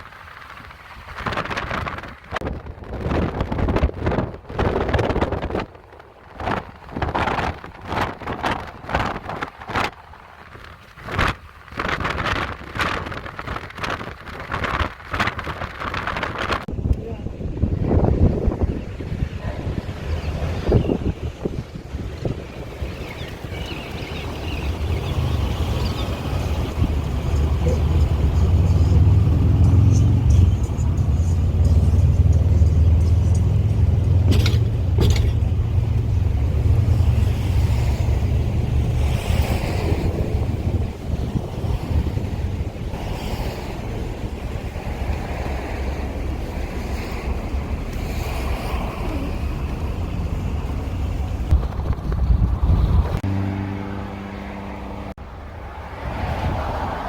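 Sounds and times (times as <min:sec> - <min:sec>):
car driving rumble: 0:00.0 - 0:57.0
road traffic passing: 0:00.0 - 0:57.0
wind noise: 0:00.0 - 0:57.0.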